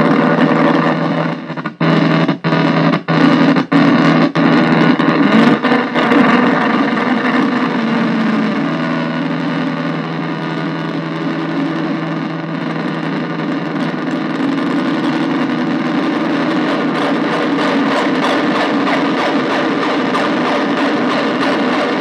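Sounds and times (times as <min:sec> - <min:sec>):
dense buzzing synthesizer drone: 0:00.0 - 0:22.0.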